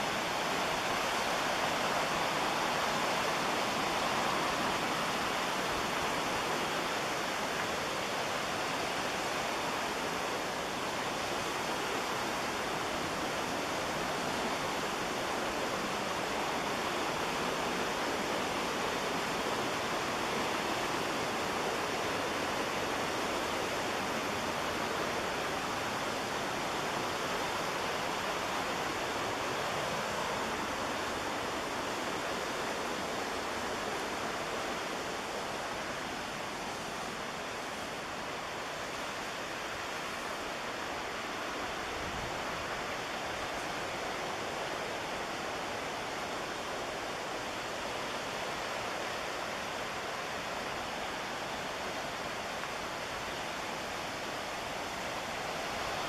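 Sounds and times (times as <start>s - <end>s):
fast-flowing river water: 0.0s - 56.0s.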